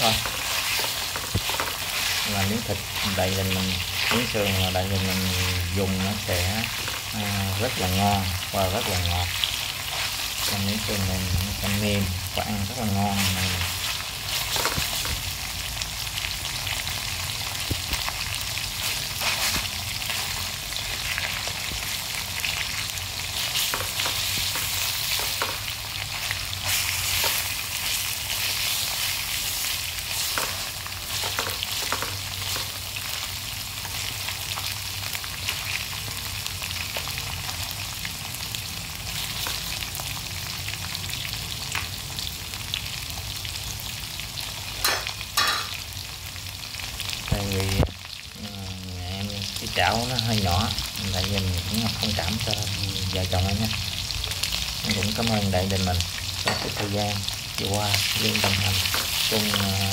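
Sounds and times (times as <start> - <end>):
meat sizzling in oil: 0.0 - 59.9
oil popping and crackling: 0.0 - 59.9.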